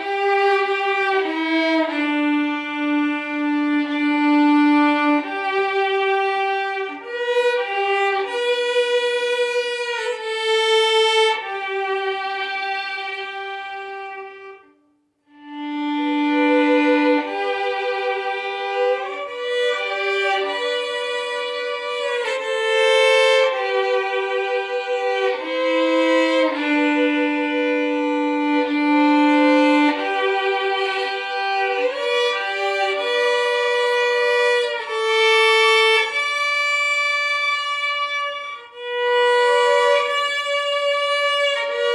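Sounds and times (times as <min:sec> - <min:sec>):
solo violin playing hymn melody: 0:00.0 - 0:41.9.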